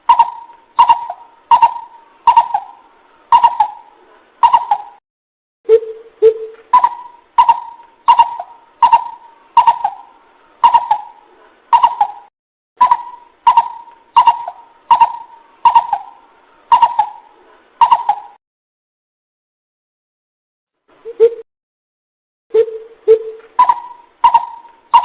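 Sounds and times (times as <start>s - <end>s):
coucal hooting: 0.0s - 5.0s, 5.7s - 18.4s, 22.5s - 25.0s.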